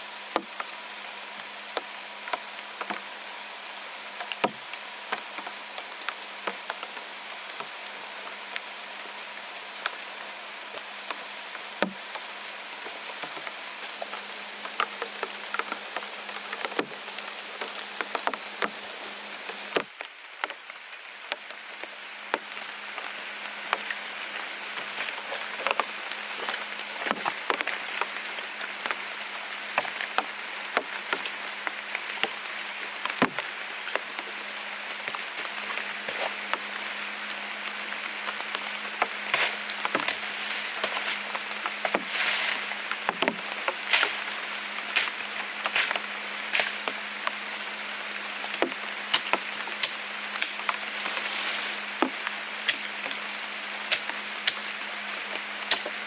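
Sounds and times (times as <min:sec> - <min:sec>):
high steady whine: 0:00.0 - 0:56.0
rain falling: 0:00.0 - 0:56.0.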